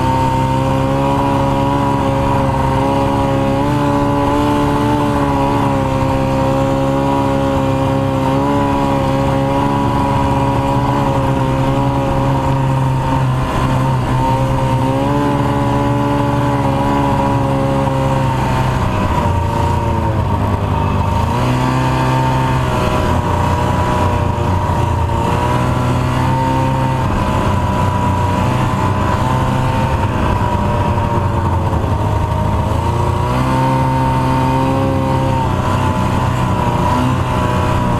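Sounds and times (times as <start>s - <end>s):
snowmobile engine running: 0.0s - 37.9s.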